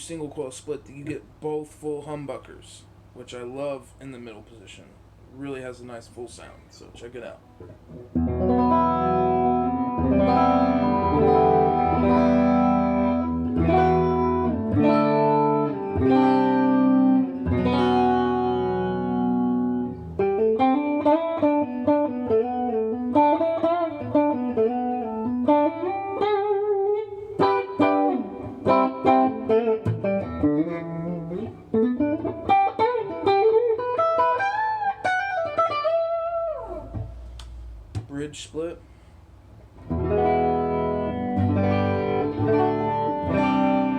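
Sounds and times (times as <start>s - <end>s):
clean electric guitar: 7.4s - 38.2s, 39.5s - 43.9s.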